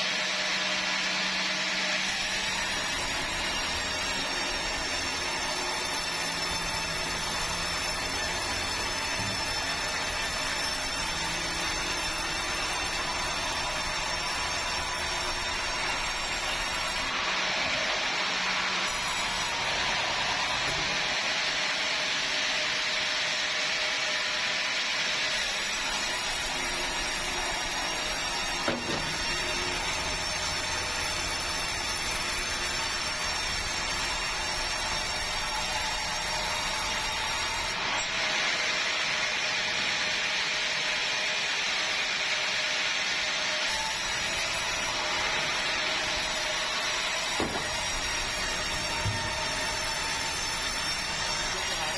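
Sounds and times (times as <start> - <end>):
sawmill saw cutting wood: 0.0 - 51.9.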